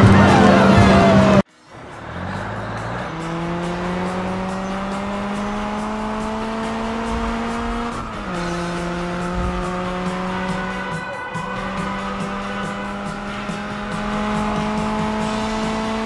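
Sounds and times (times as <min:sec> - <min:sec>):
cartoon car engine accelerating: 0:00.0 - 0:16.0.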